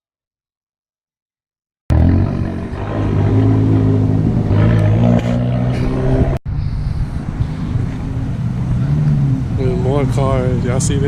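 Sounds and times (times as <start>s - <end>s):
traffic noise: 1.9s - 11.0s.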